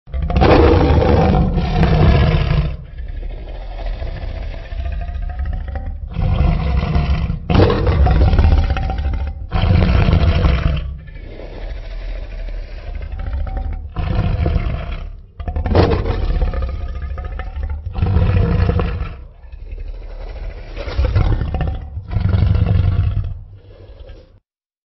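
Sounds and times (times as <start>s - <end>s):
deep dinosaur roars and growls: 0.1s - 24.4s.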